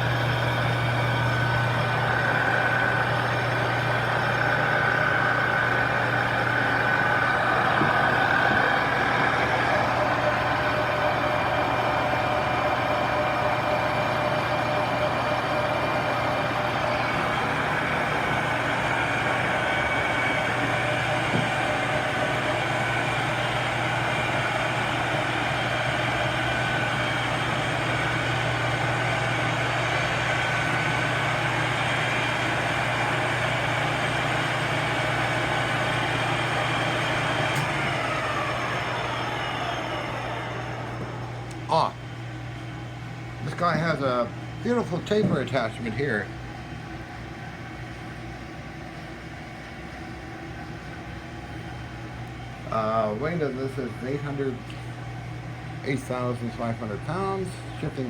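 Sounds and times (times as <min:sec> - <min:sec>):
low motor hum: 0:00.0 - 0:58.0.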